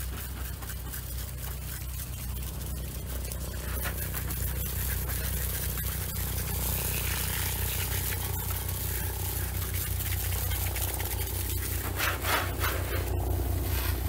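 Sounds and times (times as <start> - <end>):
hose spray hissing on car: 0.0 - 14.0
low rumble: 1.3 - 14.0.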